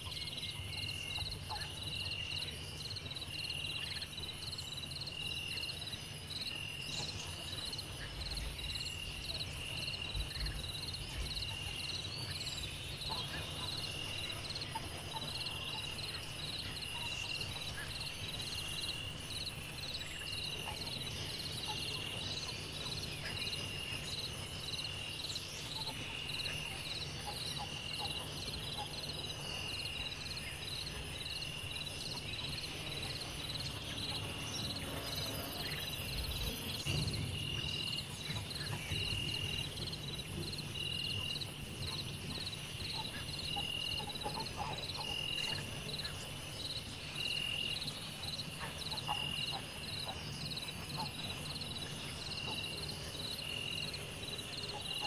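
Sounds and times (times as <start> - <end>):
high insect chirps: 0.0 - 55.0
low insect chirps: 0.0 - 55.0.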